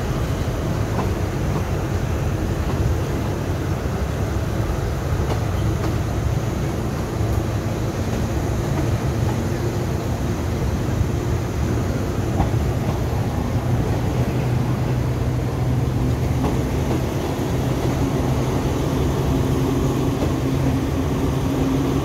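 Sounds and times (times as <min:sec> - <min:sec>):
train engine hum: 0:00.0 - 0:22.0
wheels rumbling on rails: 0:00.0 - 0:22.0.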